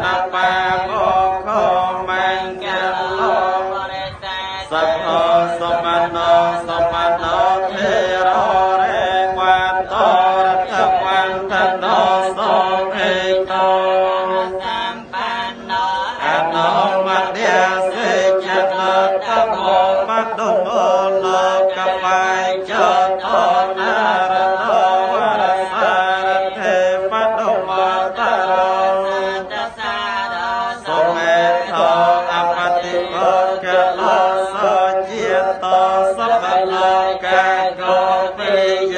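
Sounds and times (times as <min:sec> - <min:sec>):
voices chanting: 0:00.0 - 0:38.9.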